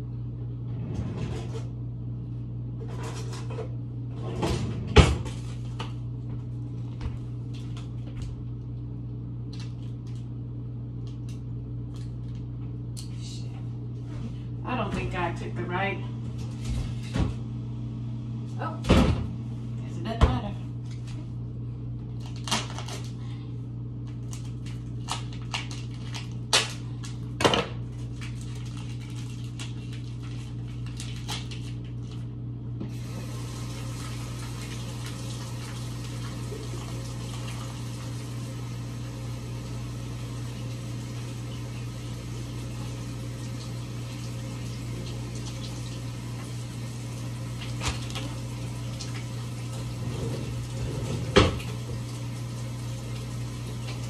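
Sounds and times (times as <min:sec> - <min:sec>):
kitchen background hum: 0:00.0 - 0:54.0.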